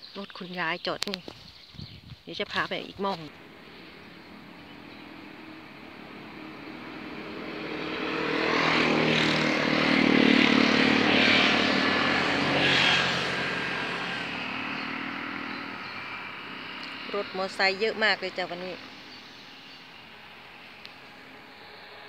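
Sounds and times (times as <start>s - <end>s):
motorcycles passing: 2.6s - 22.0s.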